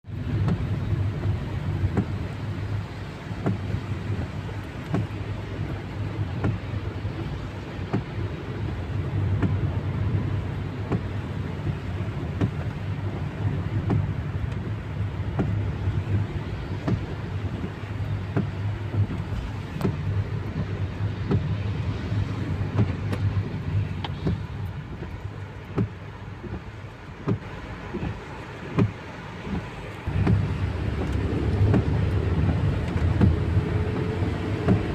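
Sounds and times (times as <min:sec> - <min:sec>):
car driving in rain hum: 0:00.0 - 0:34.9.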